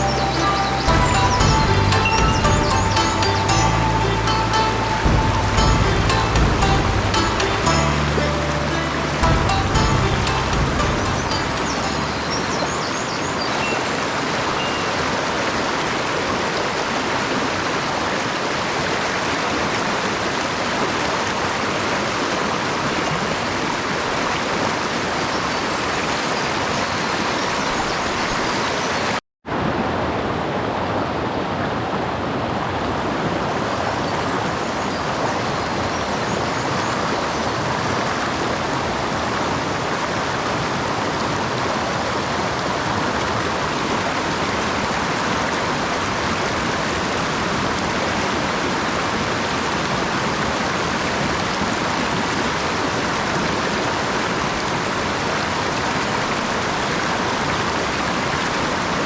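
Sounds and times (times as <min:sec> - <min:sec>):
mountain stream rushing: 0:00.0 - 0:59.0.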